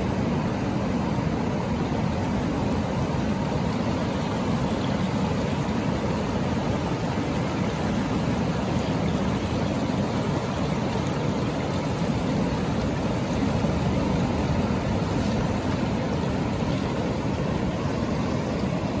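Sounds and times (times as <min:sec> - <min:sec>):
ocean surf washing around rocks: 0:00.0 - 0:19.0.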